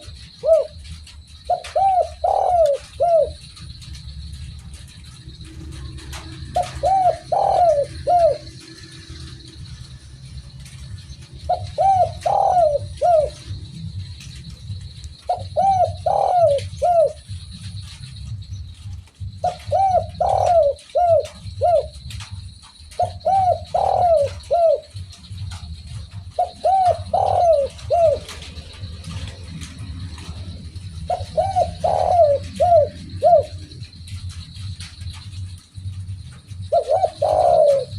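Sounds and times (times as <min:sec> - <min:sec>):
dove cooing: 0:00.0 - 0:37.9.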